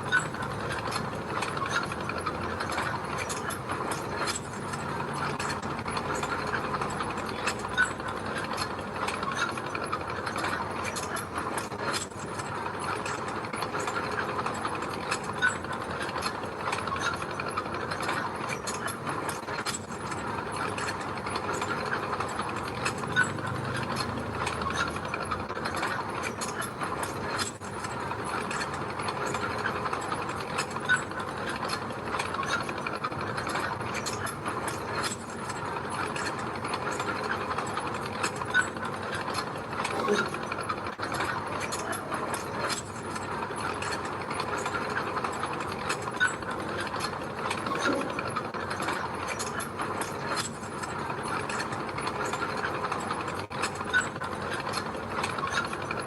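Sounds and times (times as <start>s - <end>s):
crawler tracks clattering: 0.0s - 56.0s.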